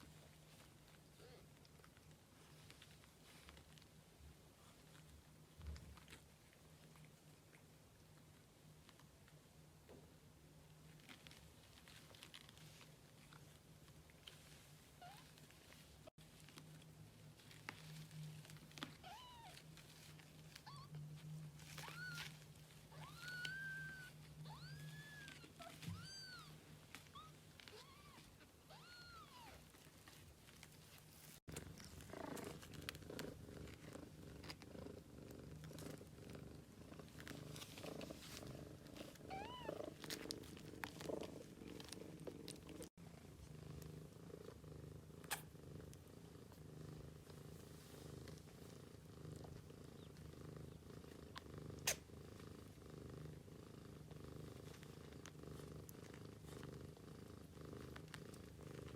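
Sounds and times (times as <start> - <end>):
cat purring: 0.0 - 58.9.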